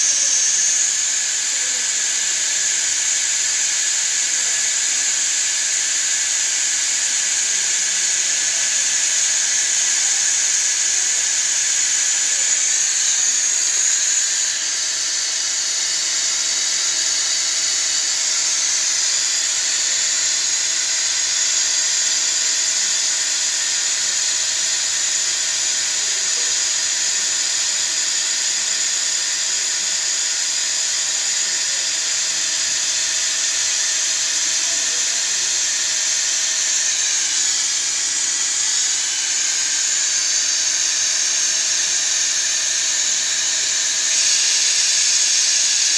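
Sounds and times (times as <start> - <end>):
high-pitched machine hiss: 0.0 - 45.9.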